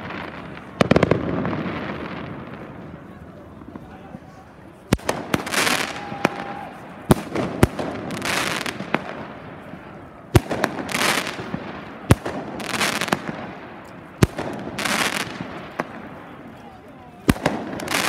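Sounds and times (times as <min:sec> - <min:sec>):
firework crackling: 0:00.0 - 0:18.0
fireworks bangs: 0:00.0 - 0:18.0.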